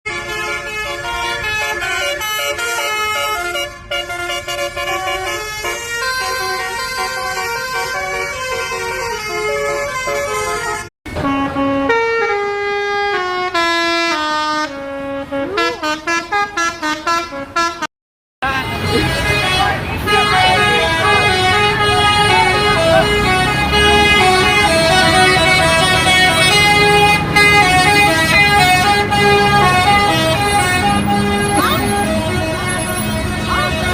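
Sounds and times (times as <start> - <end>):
multi-tone bus air horn melody: 0.0 - 33.9.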